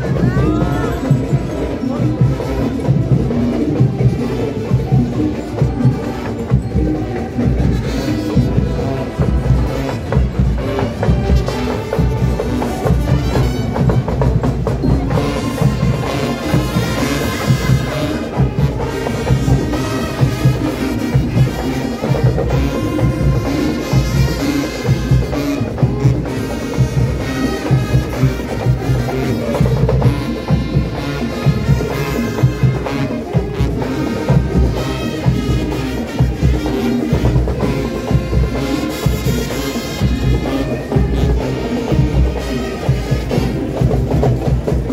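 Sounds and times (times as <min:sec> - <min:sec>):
marching band playing dance music: 0:00.0 - 0:44.9.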